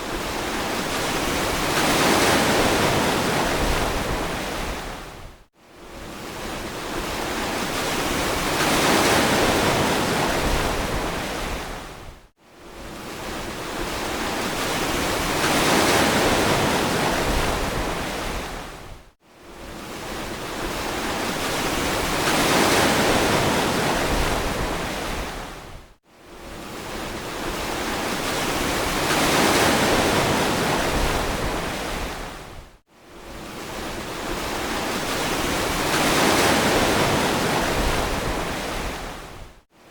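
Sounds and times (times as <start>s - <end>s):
ocean surf washing on beach: 0.0s - 5.3s, 5.9s - 12.1s, 12.7s - 18.9s, 19.6s - 25.8s, 26.4s - 39.6s.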